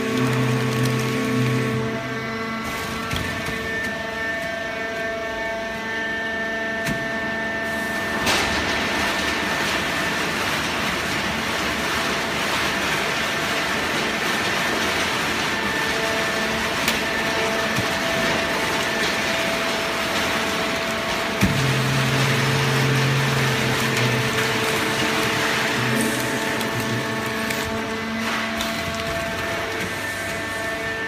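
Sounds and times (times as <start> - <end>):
hydraulic baler whining: 0.0 - 31.0.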